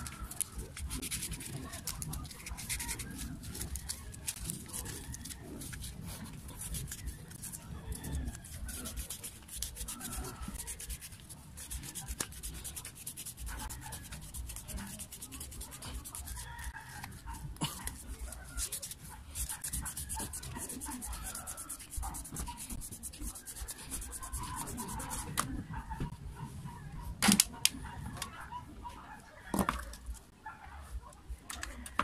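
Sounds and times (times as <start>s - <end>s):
rubbing and scraping metal: 0.0s - 26.1s.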